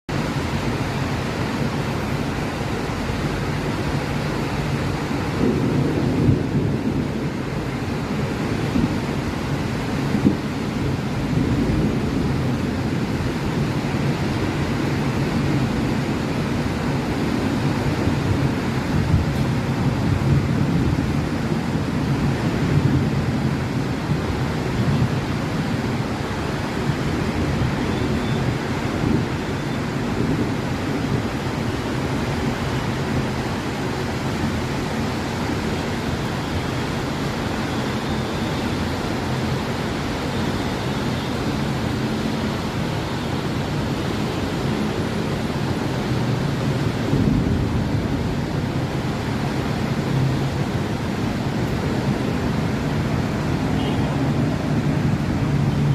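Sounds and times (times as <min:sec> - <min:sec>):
heavy rain falling: 0:00.1 - 0:55.9.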